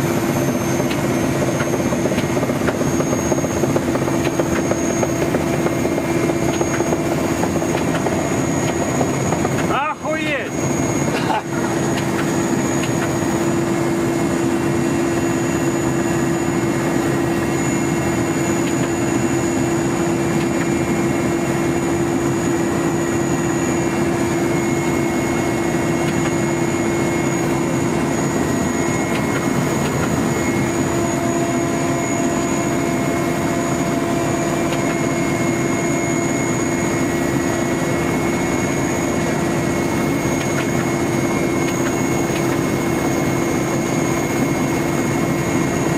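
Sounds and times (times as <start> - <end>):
constant high whine: 0.0 - 45.9
helicopter engine and rotor drone: 0.0 - 45.9.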